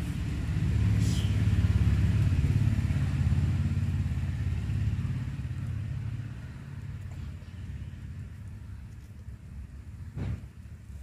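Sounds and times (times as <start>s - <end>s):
motor engine droning: 0.0s - 8.9s.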